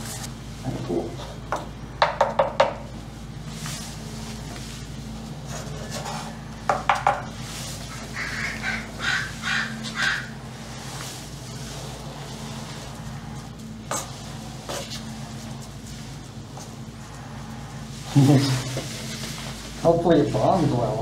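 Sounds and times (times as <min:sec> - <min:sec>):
steady low hum: 0:00.0 - 0:21.0
brush dabbing wet fiberglass: 0:01.2 - 0:21.0
rasping brush strokes: 0:03.4 - 0:21.0.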